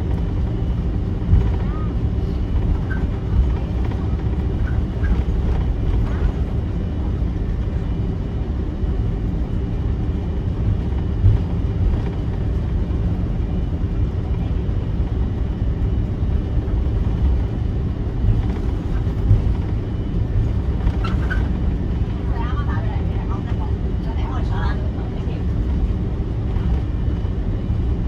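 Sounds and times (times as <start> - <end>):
aircraft engines low rumble: 0.0 - 28.0.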